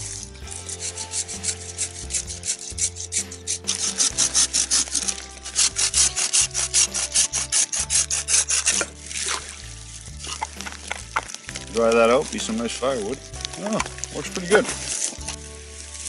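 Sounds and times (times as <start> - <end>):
saw cutting through green wood: 0.0 - 9.4, 10.2 - 16.0.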